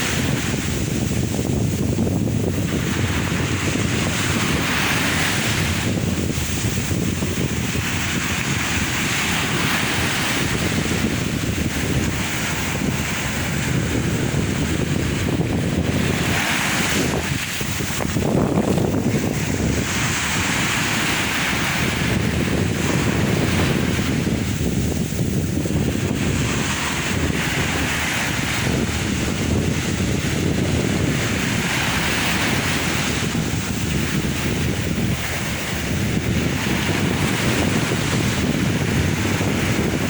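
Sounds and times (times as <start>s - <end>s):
sea waves breaking on shore: 0.0s - 40.0s
wind buffeting microphone: 0.0s - 40.0s.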